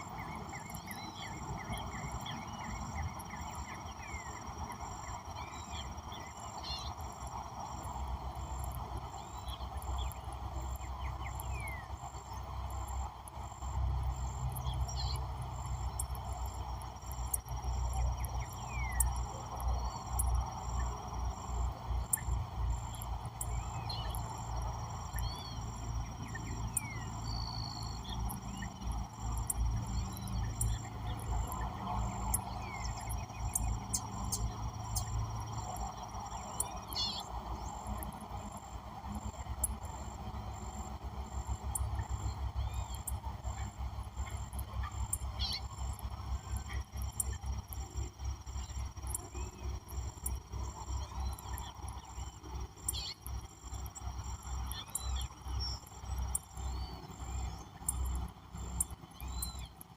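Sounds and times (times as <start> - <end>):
high insect tones: 0.0 - 59.9.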